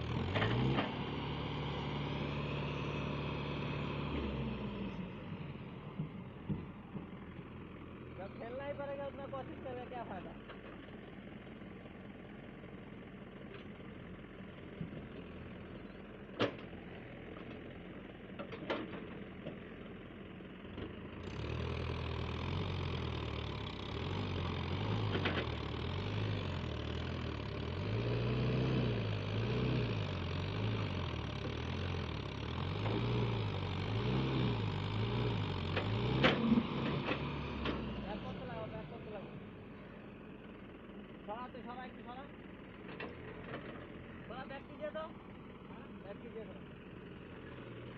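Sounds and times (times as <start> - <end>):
diesel engine revving under load: 0.0 - 47.9.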